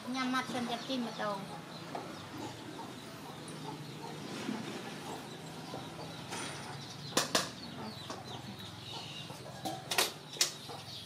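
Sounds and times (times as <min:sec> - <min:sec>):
chickens clucking: 0:00.3 - 0:11.0.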